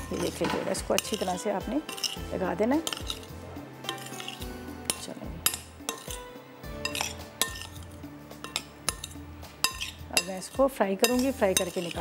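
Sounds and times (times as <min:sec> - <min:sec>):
soft background music: 0:00.0 - 0:12.0
utensils clinking against bowl: 0:00.0 - 0:12.0.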